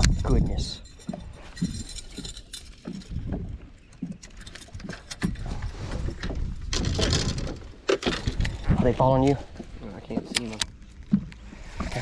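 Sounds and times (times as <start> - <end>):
fishing gear knocks and clicks: 0.0 - 12.0.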